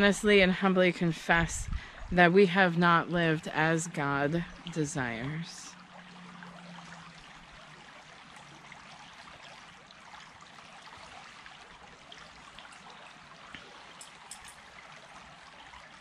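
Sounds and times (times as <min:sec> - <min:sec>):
flowing stream water: 0:00.0 - 0:16.0.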